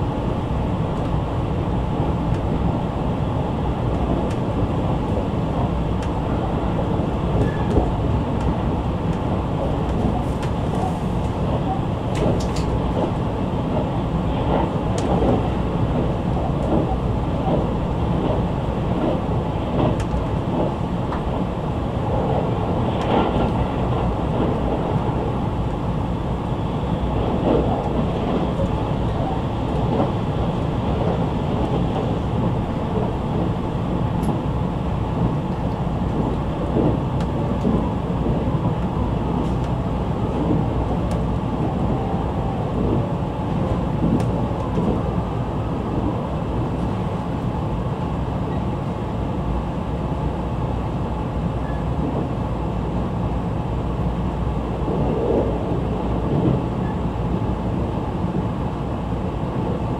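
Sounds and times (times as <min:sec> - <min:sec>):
electric train running at speed: 0:00.0 - 0:59.9.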